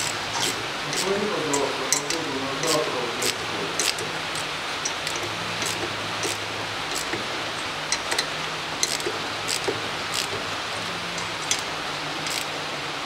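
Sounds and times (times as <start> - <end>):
ratchet wrench clicking: 0.0 - 10.4, 11.2 - 12.5
steady hiss with low hum: 0.0 - 13.0.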